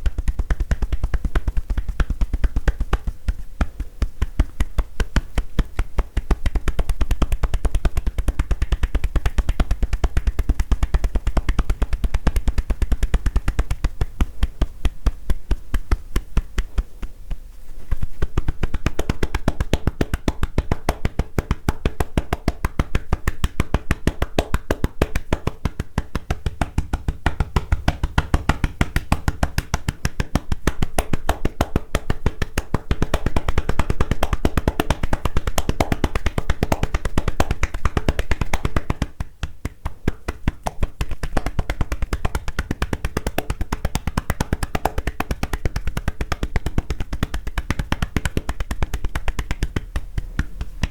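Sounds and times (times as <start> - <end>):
hands tapping in massage: 0.0 - 50.9.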